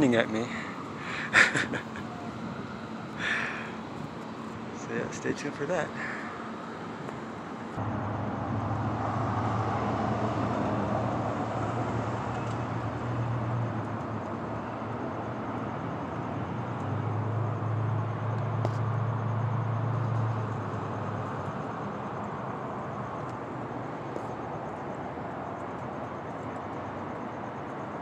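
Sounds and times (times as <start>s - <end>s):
vehicles driving past: 0.0s - 28.0s.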